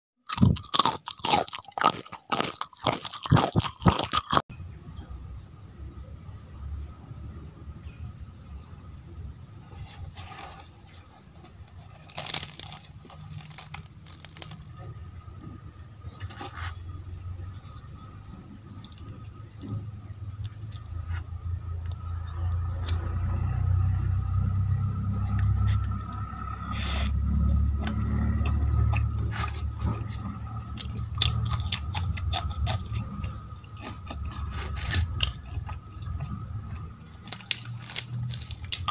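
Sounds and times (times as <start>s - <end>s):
fried pastry crackling: 0.3s - 4.4s, 9.7s - 23.1s, 25.0s - 38.9s.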